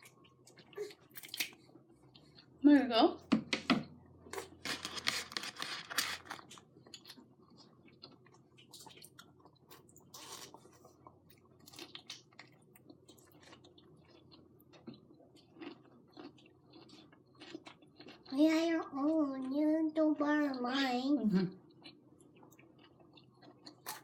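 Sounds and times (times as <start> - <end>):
chewing and crunching food: 0.0 - 2.6, 4.2 - 24.0.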